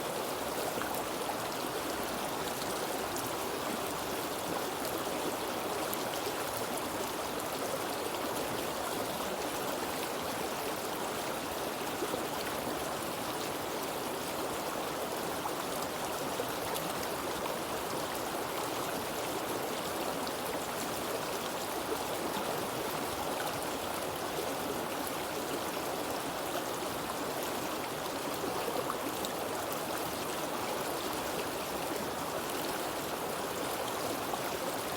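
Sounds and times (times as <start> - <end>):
stream water rushing and gurgling: 0.0 - 34.9.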